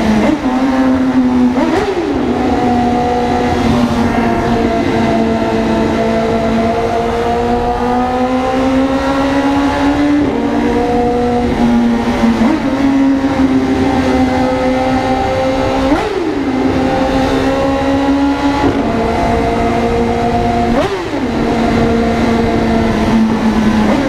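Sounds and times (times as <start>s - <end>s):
engine revving: 0.0s - 24.0s
vehicle engine through loud muffler: 0.0s - 24.0s.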